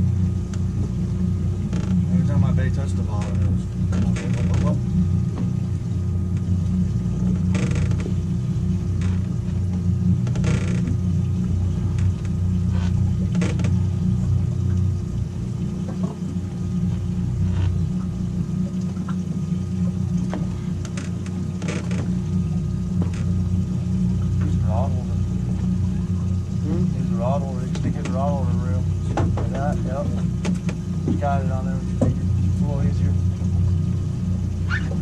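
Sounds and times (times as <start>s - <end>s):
outboard motors idling: 0.0s - 35.0s
reel and tackle rattles: 0.2s - 35.0s.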